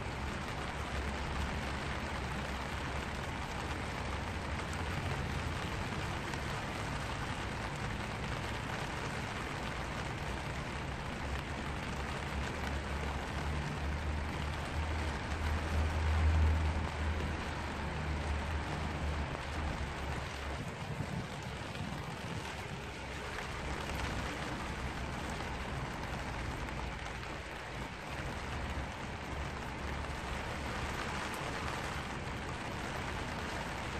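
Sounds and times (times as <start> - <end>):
rain on an umbrella: 0.0 - 33.9.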